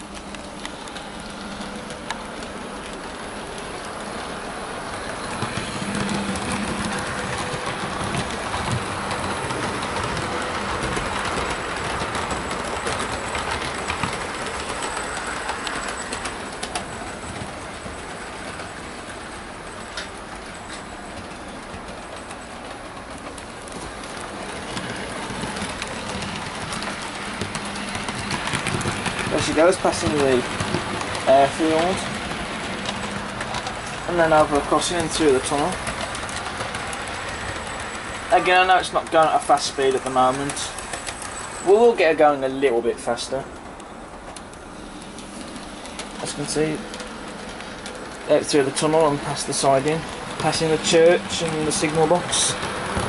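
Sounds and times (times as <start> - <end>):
model train wheels rumbling on rail: 0.0 - 53.0.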